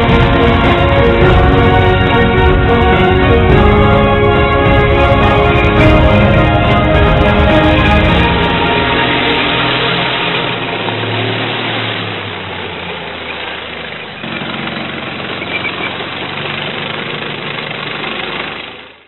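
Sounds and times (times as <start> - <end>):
tank engine idling rumble: 0.0 - 19.0.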